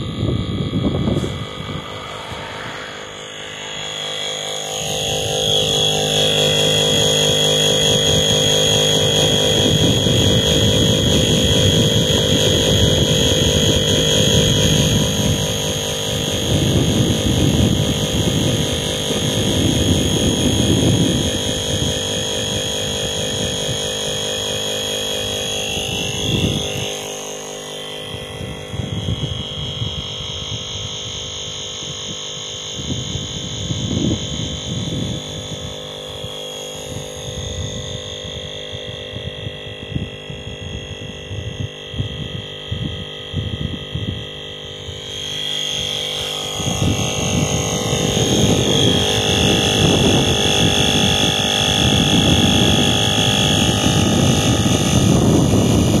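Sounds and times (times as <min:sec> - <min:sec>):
uneven low rumbling: 0:00.0 - 0:27.2, 0:32.8 - 0:56.0
electric pump whining: 0:00.0 - 0:56.0.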